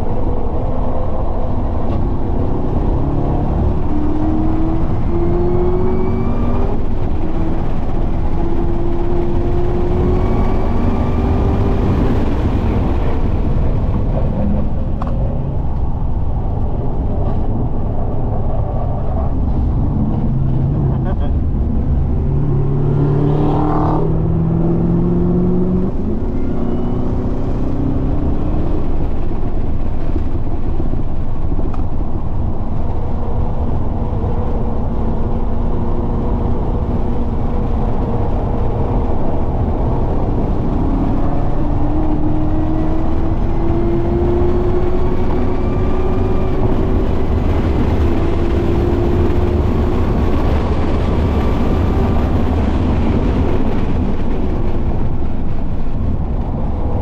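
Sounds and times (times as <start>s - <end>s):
car engine accelerating hard: 0.0s - 57.0s
low rumble: 0.0s - 57.0s.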